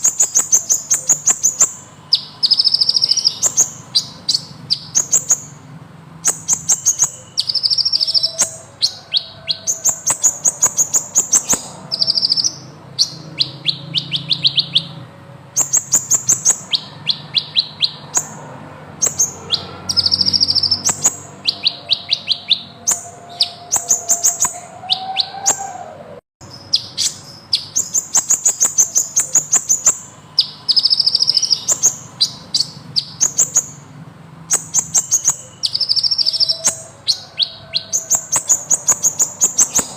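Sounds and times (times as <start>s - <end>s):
sunbird singing trilled phrases: 0.0s - 25.8s, 26.4s - 33.9s, 34.5s - 39.9s.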